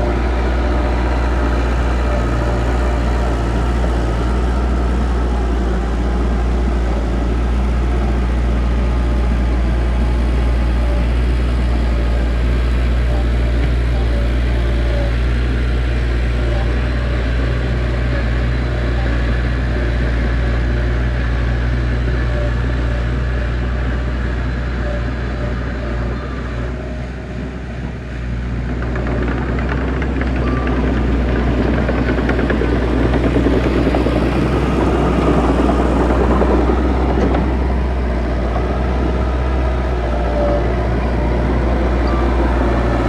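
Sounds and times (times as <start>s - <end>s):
earthmoving machine diesel engine: 0.0s - 43.0s.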